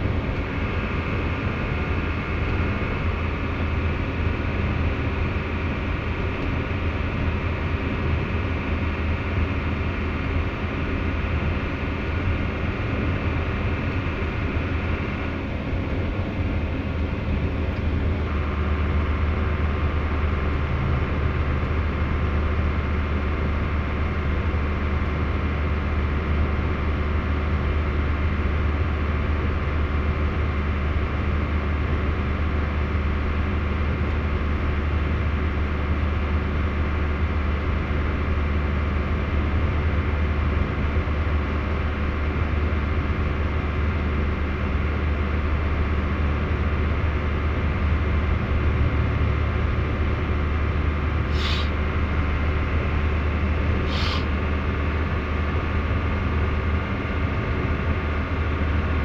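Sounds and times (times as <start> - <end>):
road and engine noise in cabin: 0.0 - 59.0.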